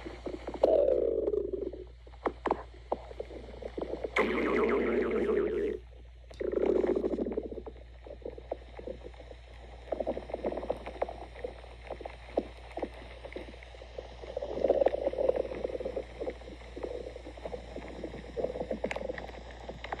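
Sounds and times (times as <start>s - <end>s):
stomach growling and gurgling: 0.0s - 20.0s.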